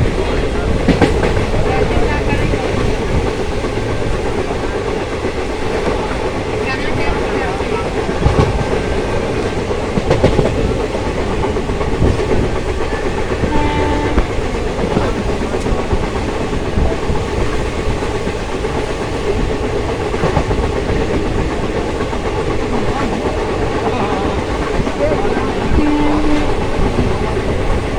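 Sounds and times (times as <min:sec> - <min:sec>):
train rumble: 0:00.0 - 0:27.9.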